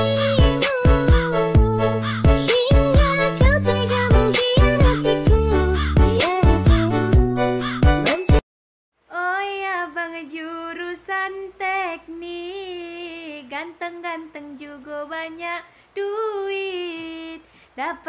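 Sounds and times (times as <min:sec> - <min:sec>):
woman singing: 0:00.0 - 0:07.8, 0:09.1 - 0:18.0.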